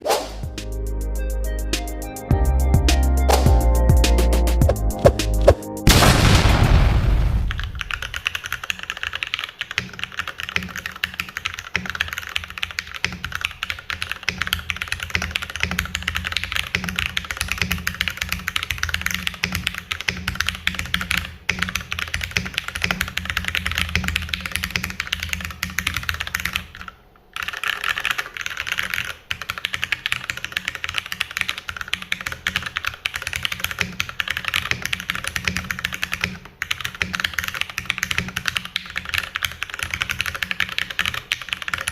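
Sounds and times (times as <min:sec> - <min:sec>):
typing on mechanical keyboard: 0:07.5 - 0:41.9.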